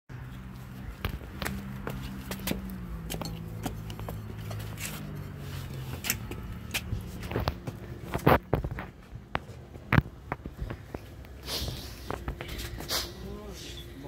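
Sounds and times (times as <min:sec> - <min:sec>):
footsteps clicking on pavement: 0:00.4 - 0:12.9.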